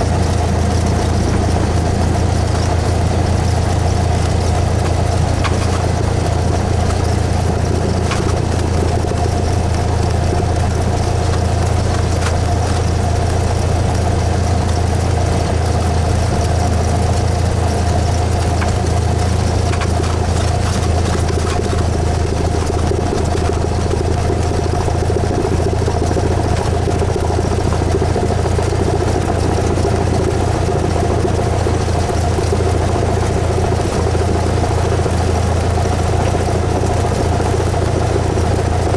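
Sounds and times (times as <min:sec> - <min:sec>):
aircraft engine running steadily: 0:00.0 - 0:38.9.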